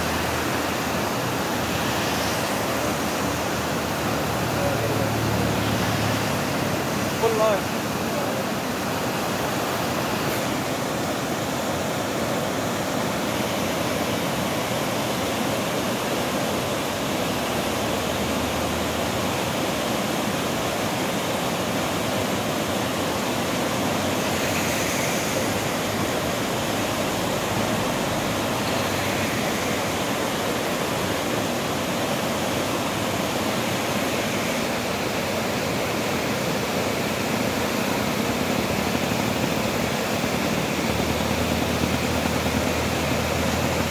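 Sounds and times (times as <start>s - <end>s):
floodwater rushing: 0.0s - 43.9s.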